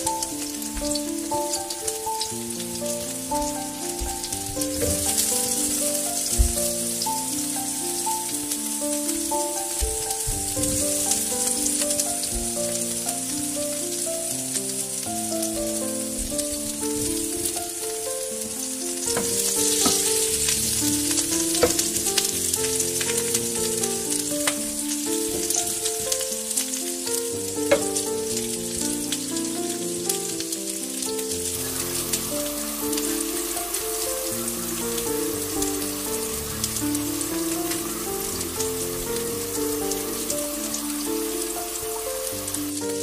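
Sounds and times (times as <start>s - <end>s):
background music: 0.0s - 43.0s
food sizzling in hot oil: 0.0s - 43.0s.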